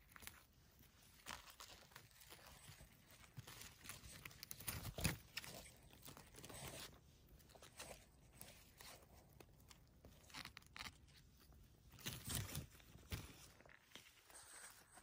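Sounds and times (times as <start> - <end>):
crackling of moss and twigs: 0.0 - 14.2.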